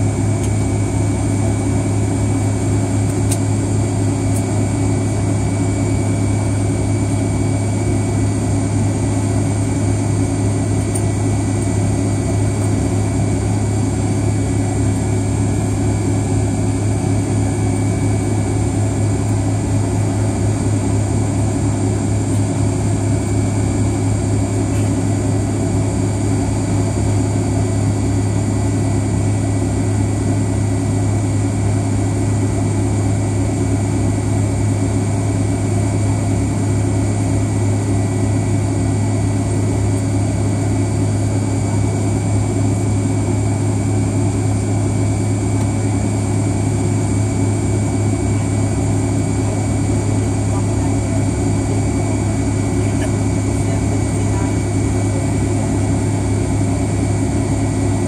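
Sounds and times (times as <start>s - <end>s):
jet engines idling drone: 0.0s - 58.0s.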